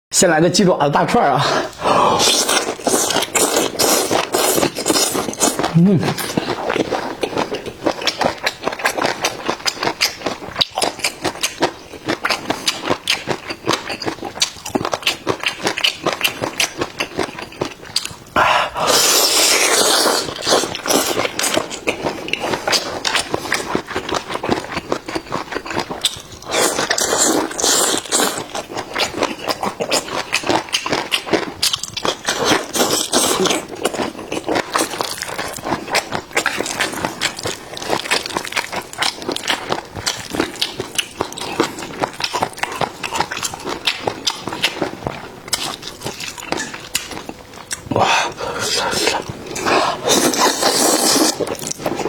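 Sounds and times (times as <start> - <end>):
wet chewing mouth sounds: 1.4 - 52.0.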